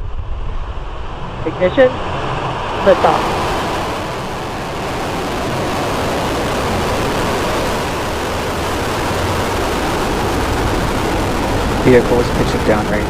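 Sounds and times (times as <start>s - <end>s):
rocket exhaust roar: 0.0s - 13.0s.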